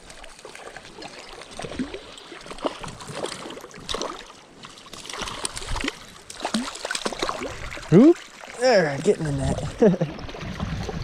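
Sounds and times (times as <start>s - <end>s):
river water running: 0.0s - 11.0s
water splashing and gurgling: 0.0s - 11.0s.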